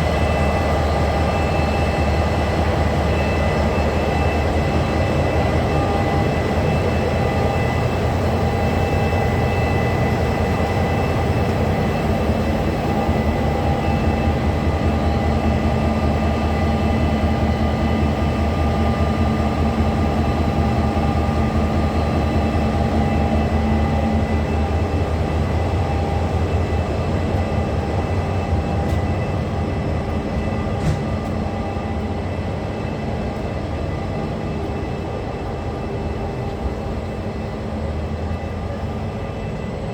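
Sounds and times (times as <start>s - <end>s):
diesel locomotive rumbling: 0.0s - 39.9s.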